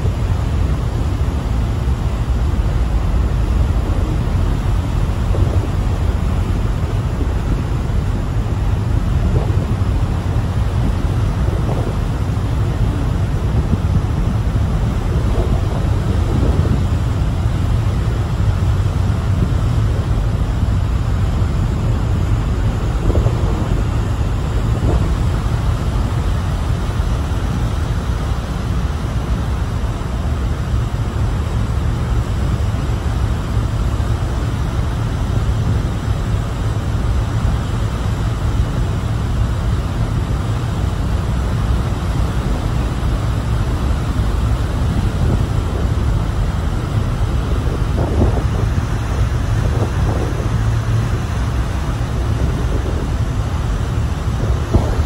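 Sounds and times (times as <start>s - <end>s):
ferry engine rumble: 0.0s - 55.0s
wind hissing over microphone: 0.0s - 55.0s.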